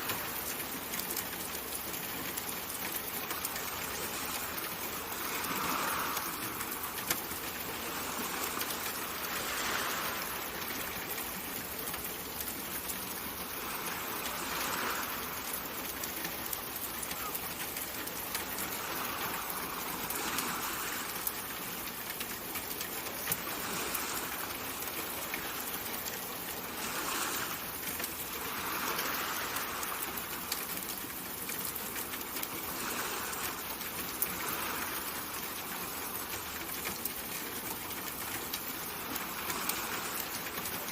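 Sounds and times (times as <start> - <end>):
faint ticks: 0.0 - 40.9
soft hiss of running water: 0.0 - 40.9.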